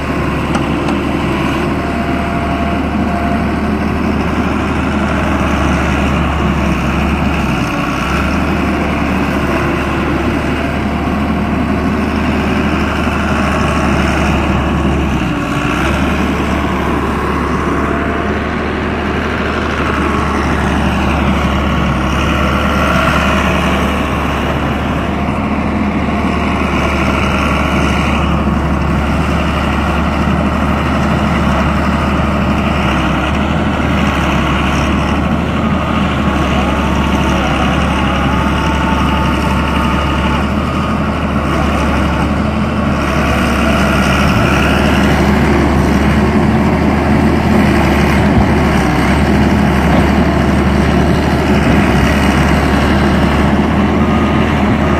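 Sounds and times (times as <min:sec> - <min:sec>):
diesel engine humming: 0:00.0 - 0:54.9.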